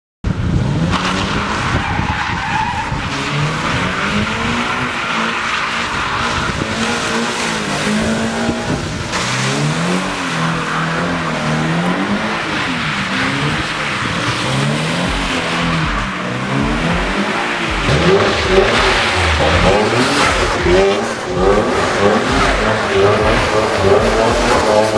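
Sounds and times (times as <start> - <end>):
sports car engine revving: 0.3 - 24.9
tyres hissing on wet pavement: 0.8 - 24.9.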